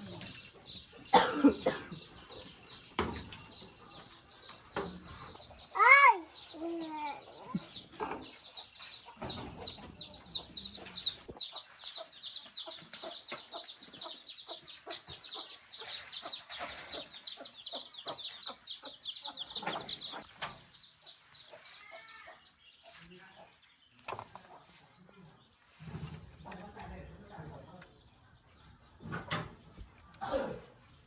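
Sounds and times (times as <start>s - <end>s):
chicks peeping: 0.0s - 30.2s.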